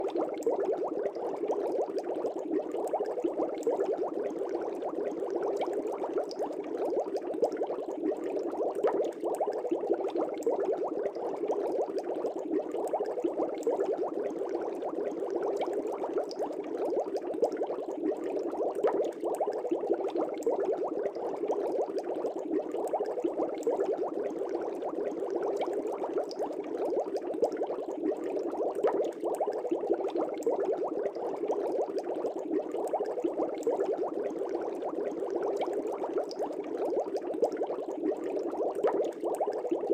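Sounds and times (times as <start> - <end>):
aquarium air bubbles popping: 0.0 - 39.9.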